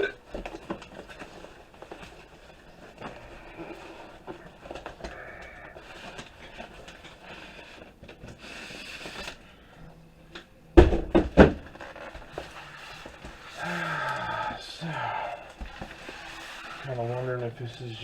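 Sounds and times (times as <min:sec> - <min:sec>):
cardboard rustling: 0:00.2 - 0:09.6, 0:11.1 - 0:18.0.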